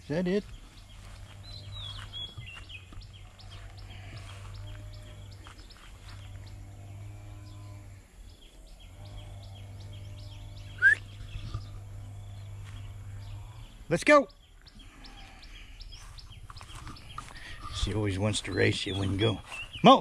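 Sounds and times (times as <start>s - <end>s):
low hum: 0.0s - 19.8s
birds chirping: 0.0s - 20.0s.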